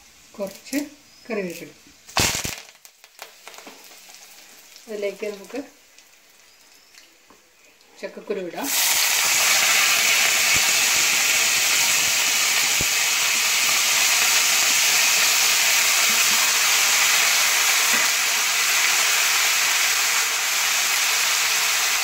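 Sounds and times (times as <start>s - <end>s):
seeds sizzling in hot oil: 0.0s - 22.0s.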